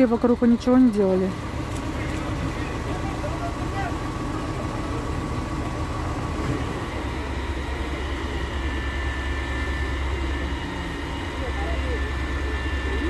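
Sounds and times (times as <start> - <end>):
faint steady whine: 0.0 - 13.0
fire truck engine rumbling: 0.0 - 13.0.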